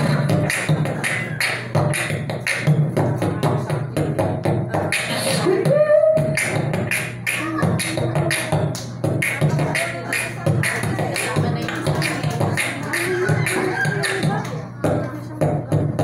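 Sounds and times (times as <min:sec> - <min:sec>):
boy beatboxing into microphone: 0:00.0 - 0:16.0.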